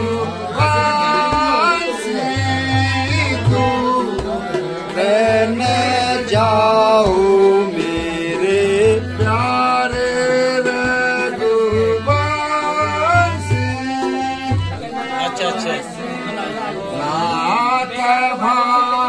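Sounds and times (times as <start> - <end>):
tabla drum strokes: 0.0 - 18.0
harmonium: 0.0 - 19.0
man singing: 0.0 - 19.0.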